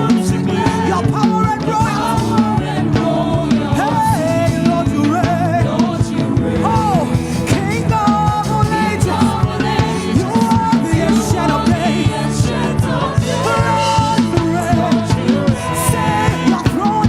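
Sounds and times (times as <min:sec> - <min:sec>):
band with drum kit playing: 0:00.0 - 0:17.0
melodic singing voice: 0:00.0 - 0:17.0.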